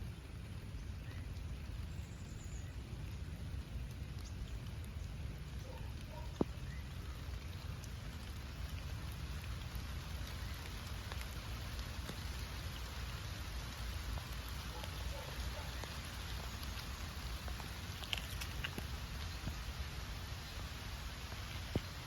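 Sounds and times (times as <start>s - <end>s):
rain falling: 0.0s - 22.0s
sharp raindrop hits: 2.9s - 22.0s.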